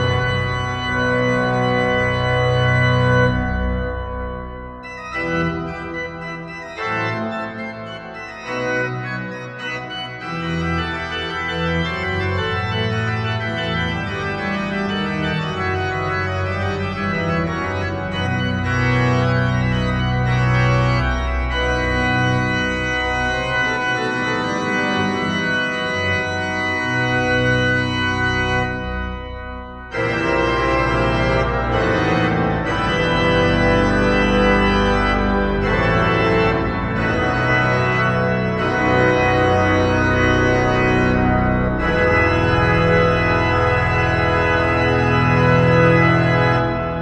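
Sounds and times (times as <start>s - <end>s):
organ chords over deep bass: 0.0s - 47.0s.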